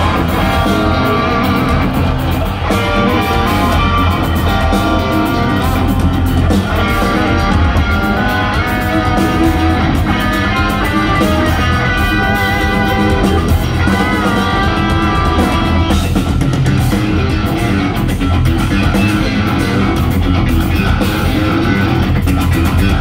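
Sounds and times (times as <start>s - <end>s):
drum kit: 0.0s - 23.0s
electric guitars playing metal: 0.0s - 23.0s.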